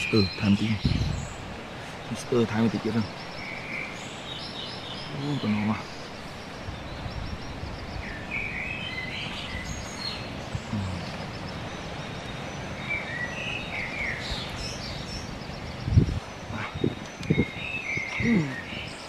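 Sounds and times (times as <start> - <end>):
small birds chirping: 0.0 - 19.0
steady background hiss: 0.0 - 19.0.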